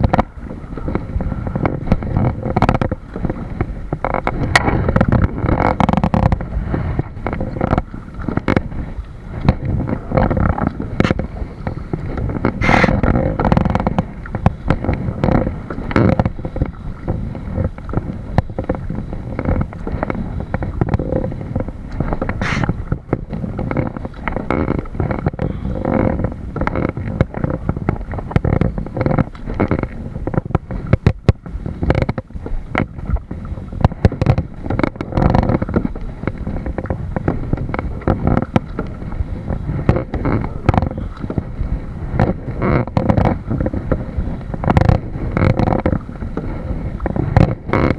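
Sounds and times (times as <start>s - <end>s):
water sloshing against kayak hull: 0.1s - 47.9s.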